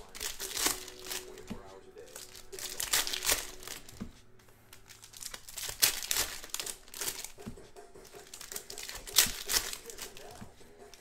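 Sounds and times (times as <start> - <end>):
foil wrapper tearing and crinkling: 0.0 - 4.0, 4.7 - 11.0.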